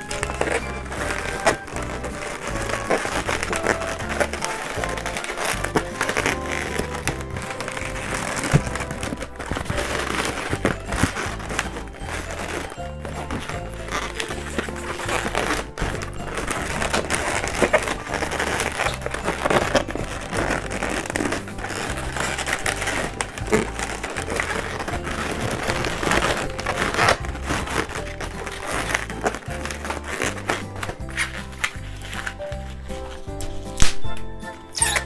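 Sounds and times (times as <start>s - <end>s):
background music with bass line: 0.0s - 35.0s
balloons rubbing and squeaking: 0.0s - 35.0s.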